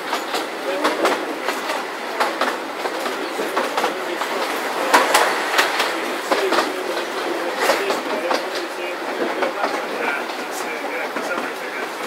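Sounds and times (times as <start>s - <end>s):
train running on track: 0.0s - 12.0s
wheels clicking over rail joints: 0.0s - 12.0s.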